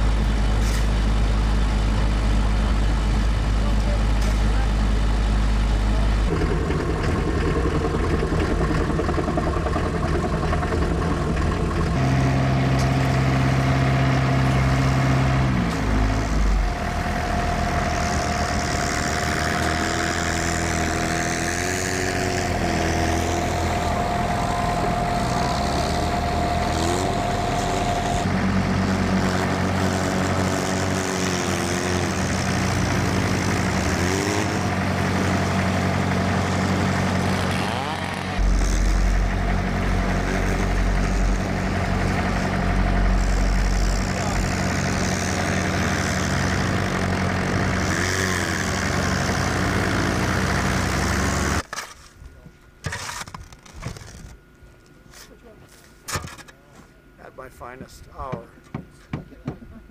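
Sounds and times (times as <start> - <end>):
diesel engine running: 0.0 - 51.7
steady whine: 0.0 - 59.9.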